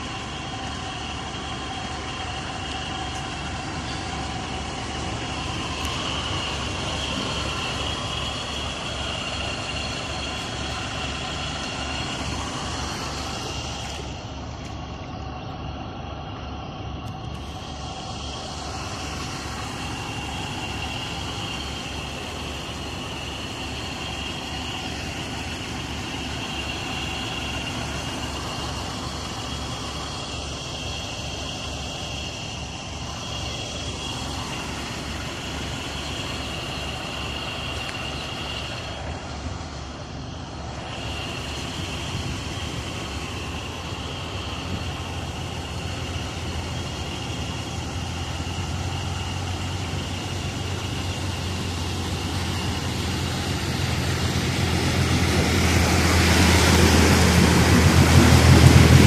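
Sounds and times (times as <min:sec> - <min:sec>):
engine running: 0:00.0 - 0:59.0
steady high-pitched tone: 0:00.0 - 0:59.0.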